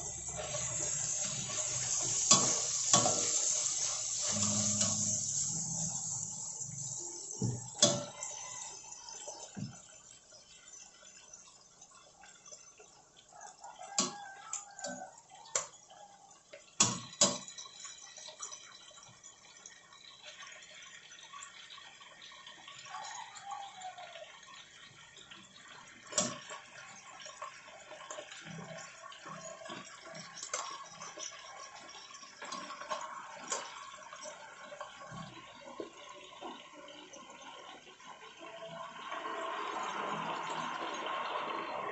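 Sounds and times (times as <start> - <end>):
meat sizzling and bubbling in a pot: 0.0 - 41.9.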